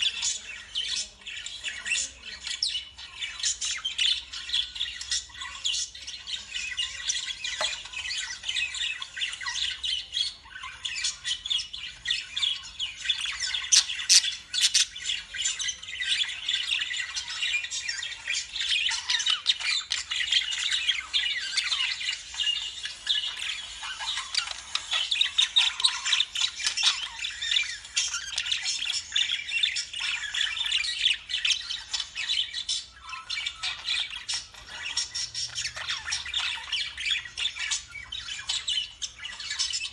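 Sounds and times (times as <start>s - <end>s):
lovebirds calling: 0.0s - 39.9s.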